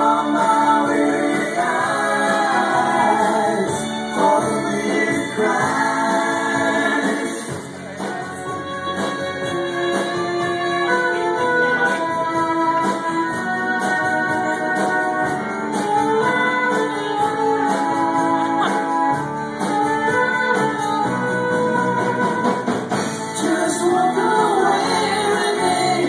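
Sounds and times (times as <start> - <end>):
drum beats: 0.0 - 26.0
live band playing: 0.0 - 26.0.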